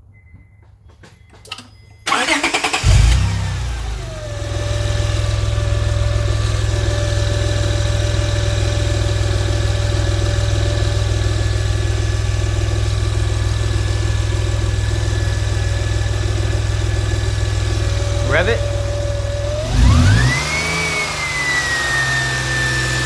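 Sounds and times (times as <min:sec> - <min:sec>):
engine belt whine: 0:00.4 - 0:23.0
car engine starting and idling: 0:00.5 - 0:23.0.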